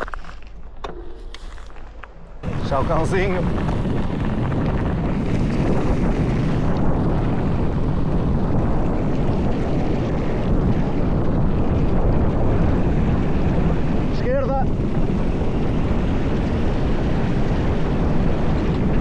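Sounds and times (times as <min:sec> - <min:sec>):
tyres rumbling on rough ground: 0:00.0 - 0:19.0
wind on microphone: 0:00.9 - 0:19.0.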